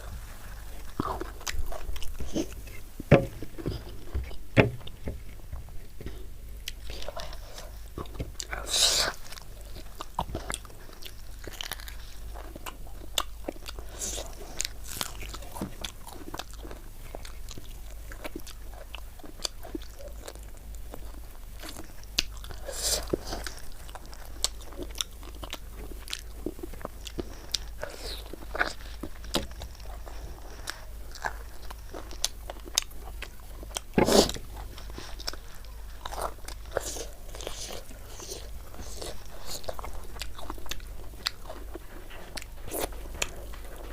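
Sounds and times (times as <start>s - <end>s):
wet chewing and mouth clicks: 0.4s - 43.9s.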